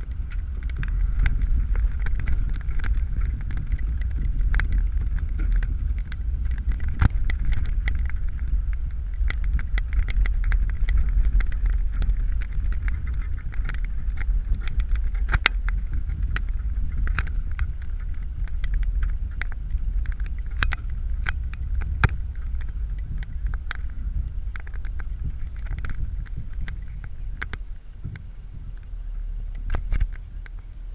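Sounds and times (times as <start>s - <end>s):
vehicle clicks and knocks: 0.0s - 30.9s
vehicle engine and tyres rumble: 0.0s - 30.9s.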